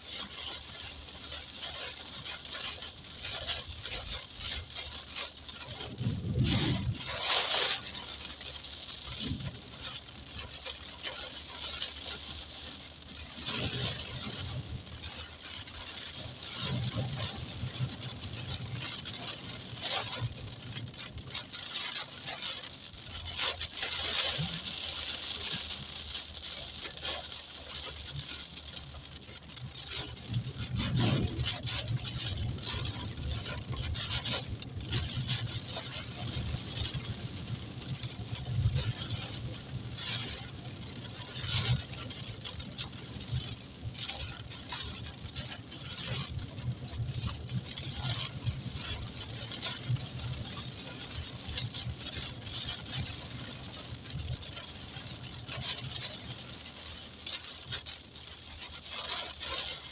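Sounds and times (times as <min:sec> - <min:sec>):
car engine and tyre noise: 0:00.0 - 0:59.9
heavy rain on car windshield: 0:00.0 - 0:59.9.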